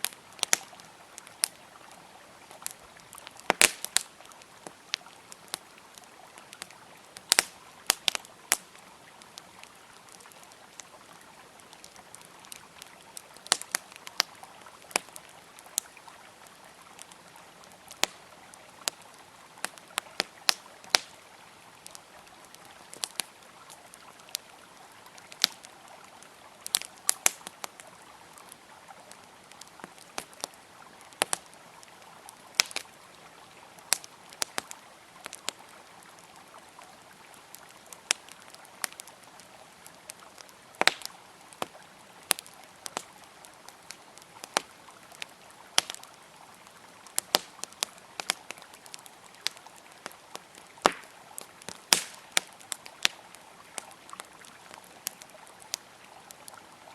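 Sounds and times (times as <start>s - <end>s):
campfire crackling: 0.0s - 56.9s
river flowing: 0.0s - 56.9s.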